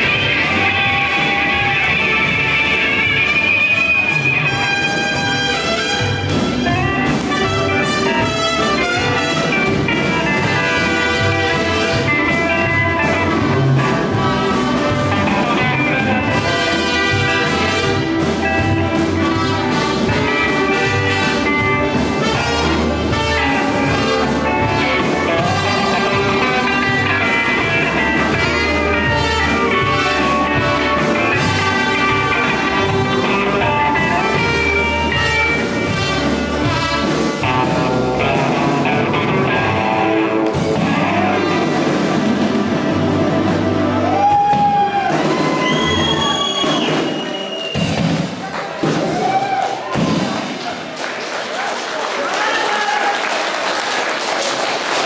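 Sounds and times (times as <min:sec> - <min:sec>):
trumpet: 0:00.0 - 0:48.2
drum kit steady beat: 0:00.0 - 0:50.8
electric guitars: 0:00.0 - 0:50.8
bass guitar: 0:00.0 - 0:50.9.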